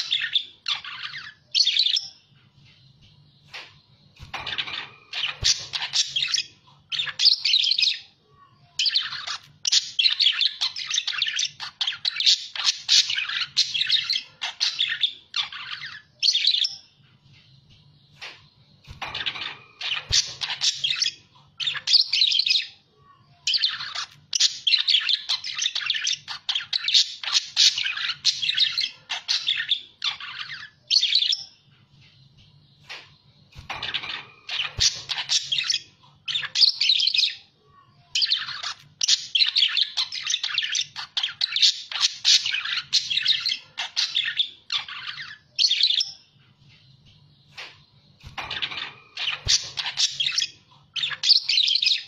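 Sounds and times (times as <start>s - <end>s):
budgerigars chattering and warbling: 3.4s - 8.0s, 8.9s - 16.7s, 18.1s - 22.7s, 23.5s - 31.4s, 32.8s - 37.4s, 38.2s - 46.2s, 47.5s - 52.0s.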